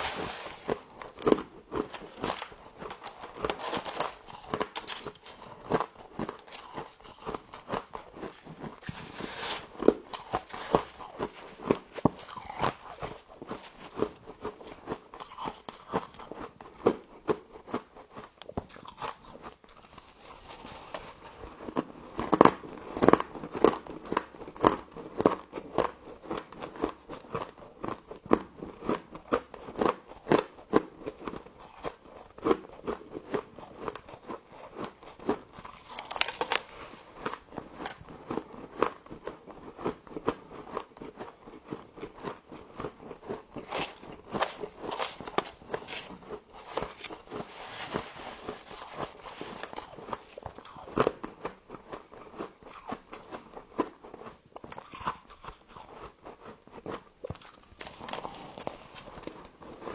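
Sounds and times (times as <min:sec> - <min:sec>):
frost crunching being chewed: 0:00.0 - 0:59.9.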